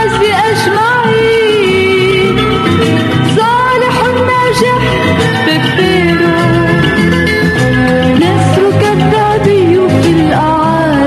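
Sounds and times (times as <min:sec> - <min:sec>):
pop song with band: 0:00.0 - 0:11.0.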